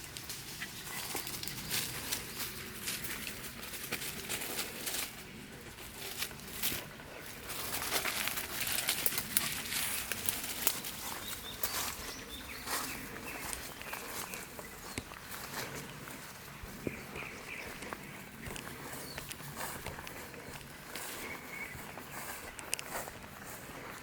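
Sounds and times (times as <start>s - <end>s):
footsteps through leaf litter: 0.0s - 24.0s.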